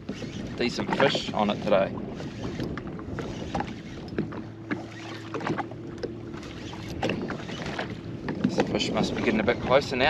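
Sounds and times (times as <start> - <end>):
waves slapping against a hull: 0.0 - 10.0.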